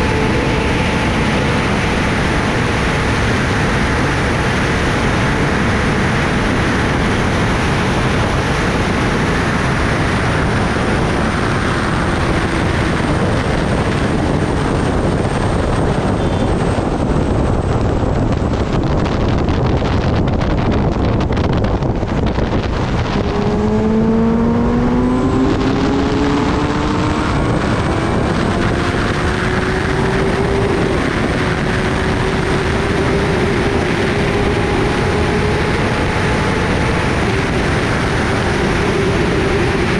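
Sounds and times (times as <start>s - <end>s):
heavy wind rush: 0.0s - 39.9s
motorcycle engine: 0.0s - 39.9s.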